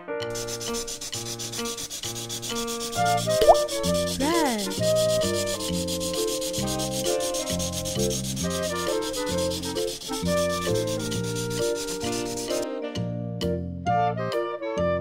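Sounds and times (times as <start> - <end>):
light background music: 0.0 - 15.0
crayon scribbling on paper: 0.3 - 12.6.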